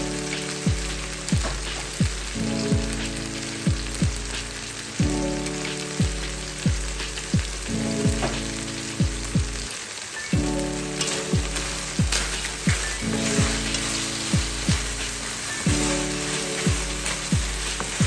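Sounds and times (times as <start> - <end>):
background music with bass beat: 0.0 - 9.7, 10.4 - 18.0
meat sizzling in a skillet: 0.0 - 18.0.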